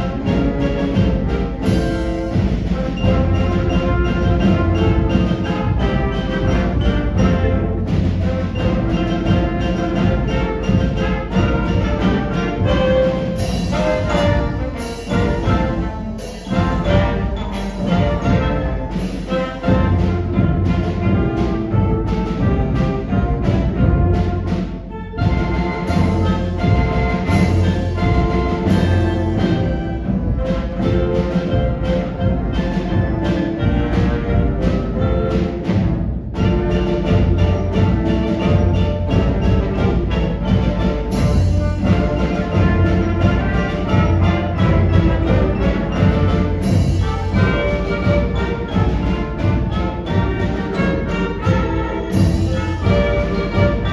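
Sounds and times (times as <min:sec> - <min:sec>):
brass and woodwind chords: 0:00.0 - 0:35.7, 0:36.4 - 0:53.9
concert band playing a march: 0:00.0 - 0:53.9
timpani and percussion accents: 0:00.0 - 0:53.9.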